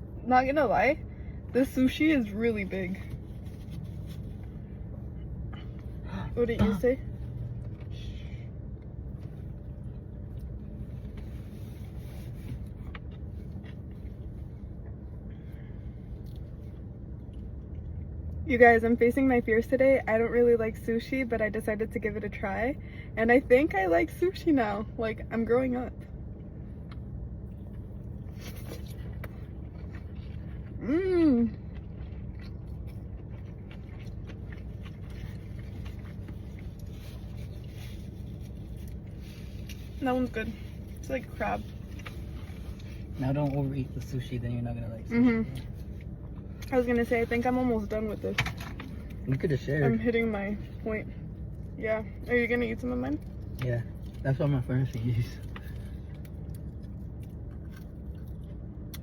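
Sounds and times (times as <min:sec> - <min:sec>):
low background rumble: 0:00.0 - 0:59.0.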